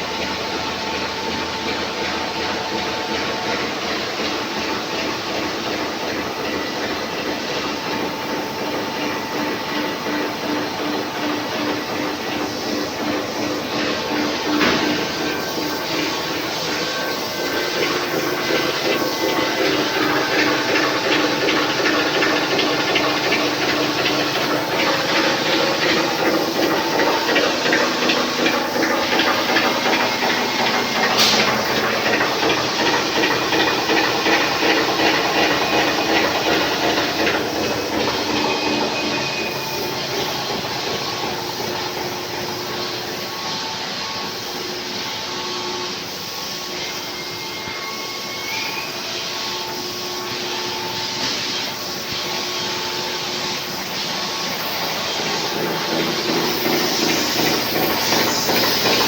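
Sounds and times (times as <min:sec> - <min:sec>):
factory machinery running: 0:00.0 - 0:59.0.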